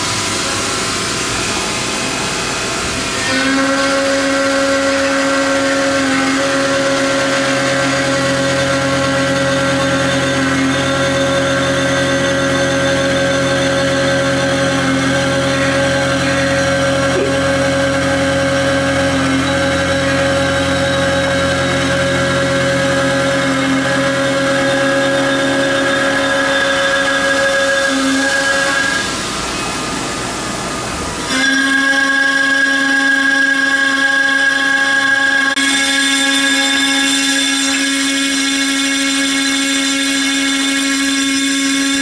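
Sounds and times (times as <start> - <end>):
lathe cutting metal hum: 0.0 - 42.0.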